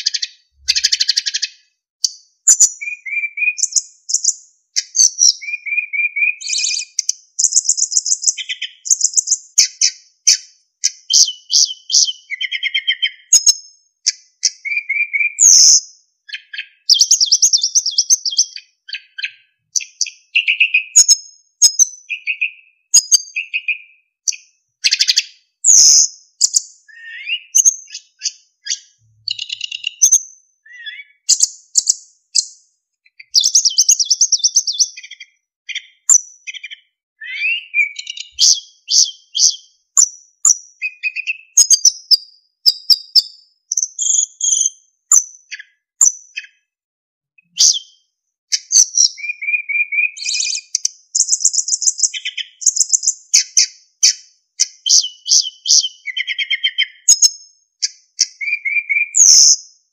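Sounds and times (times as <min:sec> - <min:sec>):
flycatcher singing: 0:00.0 - 0:46.6, 0:47.5 - 0:59.7.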